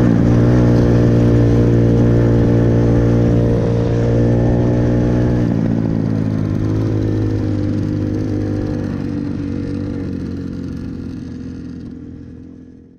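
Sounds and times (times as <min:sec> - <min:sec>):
motorbike engine running: 0:00.0 - 0:12.9.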